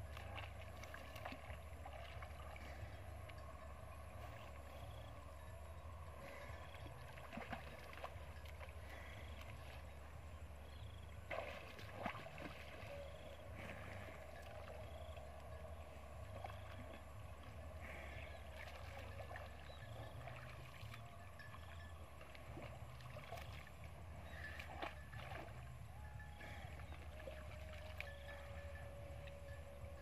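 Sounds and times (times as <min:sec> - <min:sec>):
low steady rumble: 0:00.0 - 0:30.0
water lapping and sloshing: 0:00.0 - 0:30.0.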